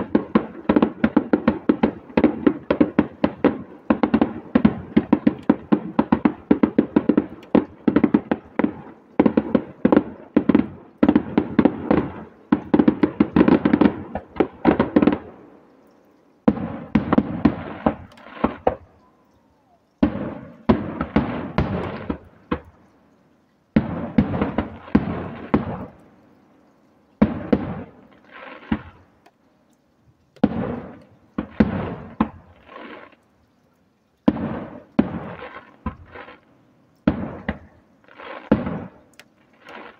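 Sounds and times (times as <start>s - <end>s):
fireworks bangs and crackle: 0.0s - 15.6s, 16.4s - 22.9s, 23.7s - 29.4s, 30.3s - 33.3s, 34.2s - 39.9s.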